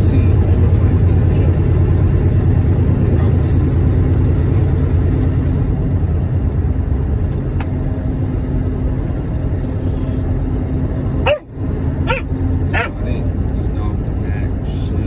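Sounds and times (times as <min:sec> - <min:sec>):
truck engine and tyres droning: 0:00.0 - 0:15.0.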